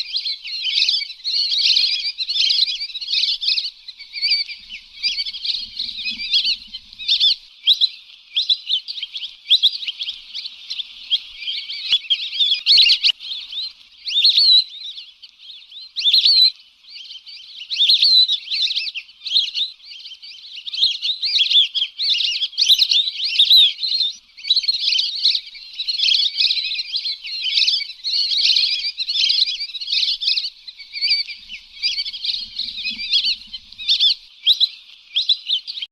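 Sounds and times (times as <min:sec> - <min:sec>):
ducks whistling: 0:00.0 - 0:35.9.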